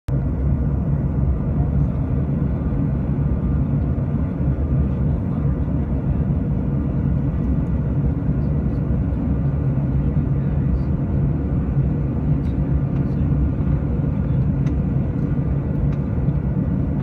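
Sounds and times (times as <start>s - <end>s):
airliner engine rumble: 0.1s - 17.0s.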